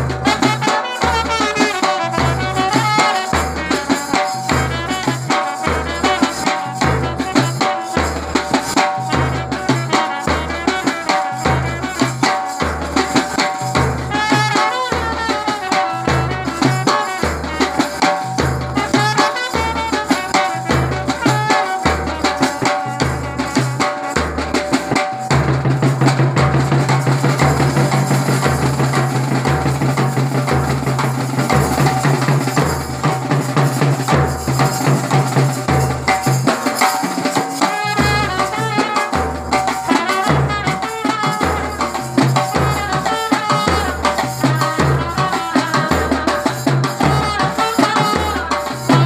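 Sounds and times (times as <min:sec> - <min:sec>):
snare drums: 0:00.0 - 0:49.0
trumpet melody: 0:00.0 - 0:49.0.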